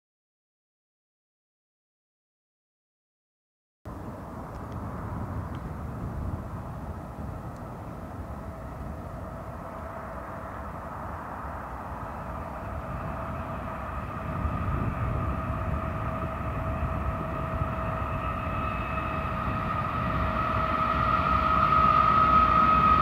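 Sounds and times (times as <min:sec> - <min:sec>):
train rumble with whine: 0:03.9 - 0:23.0.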